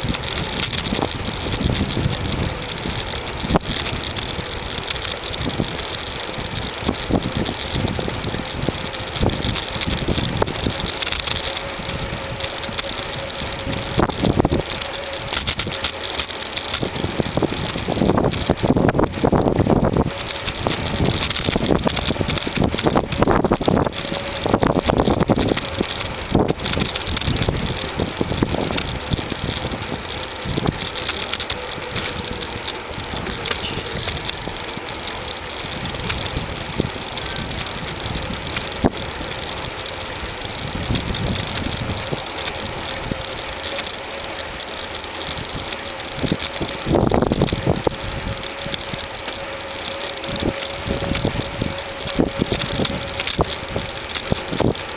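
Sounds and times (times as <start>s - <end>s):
bicycle knocks and rattles: 0.0s - 54.9s
wind and road noise: 0.0s - 54.9s.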